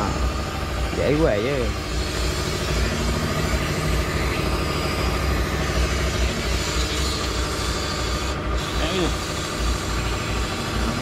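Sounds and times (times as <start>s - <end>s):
air compressor drone: 0.0s - 11.0s
sandblasting hiss: 1.8s - 11.0s.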